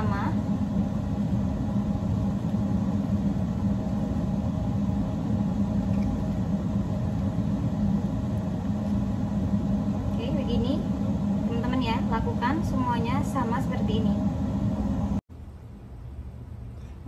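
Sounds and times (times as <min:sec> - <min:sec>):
machine humming: 0:00.0 - 0:16.5.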